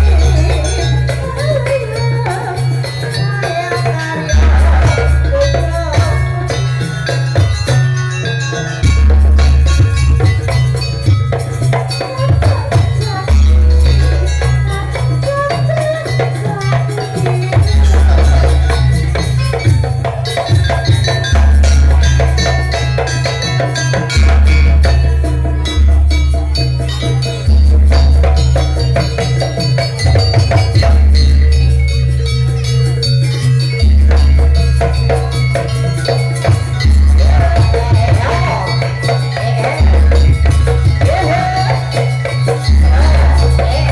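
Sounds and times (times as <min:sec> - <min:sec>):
percussion ensemble music: 0:00.0 - 0:43.9.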